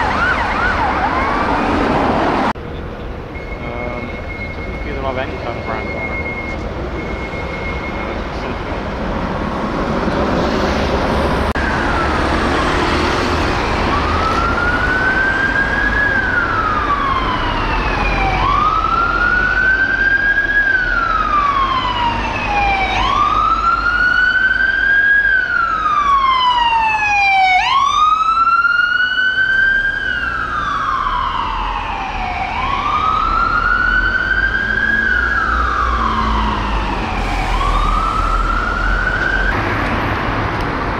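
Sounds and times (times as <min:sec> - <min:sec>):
emergency vehicle siren wailing: 0:00.0 - 0:02.6, 0:03.3 - 0:09.0, 0:11.1 - 0:40.9
road traffic noise: 0:00.0 - 0:40.9.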